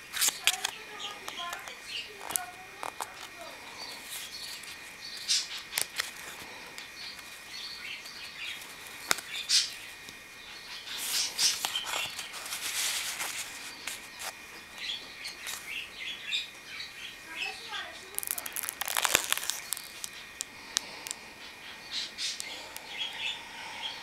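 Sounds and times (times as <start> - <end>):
small birds chirping: 0.1 - 12.4, 13.4 - 24.0.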